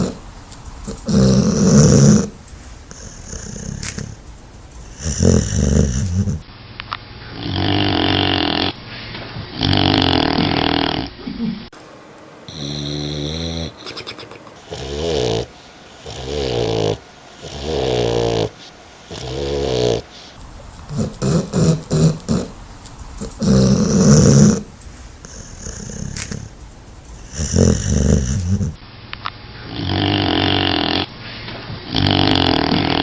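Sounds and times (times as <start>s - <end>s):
dogs snoring: 0.0s - 6.5s, 7.2s - 8.8s, 9.4s - 11.2s, 12.5s - 28.8s, 29.6s - 31.1s, 31.7s - 33.0s.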